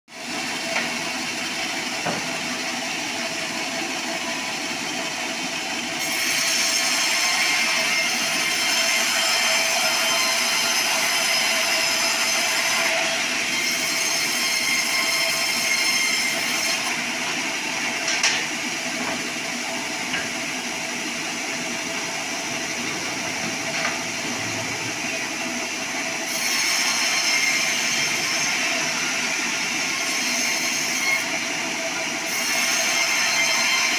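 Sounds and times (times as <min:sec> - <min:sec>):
saw blade cutting through log: 0:00.6 - 0:20.6, 0:21.6 - 0:33.9.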